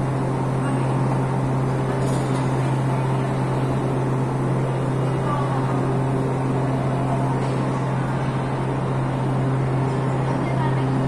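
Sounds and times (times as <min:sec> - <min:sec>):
passengers' voices: 0:00.0 - 0:11.0
train humming at platform: 0:00.0 - 0:11.0.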